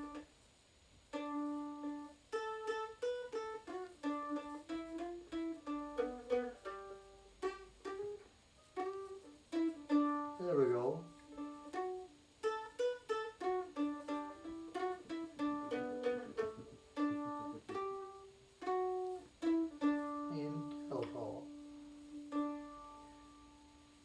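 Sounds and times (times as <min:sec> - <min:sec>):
solo mandolin melody: 0:00.0 - 0:00.4, 0:01.1 - 0:24.0.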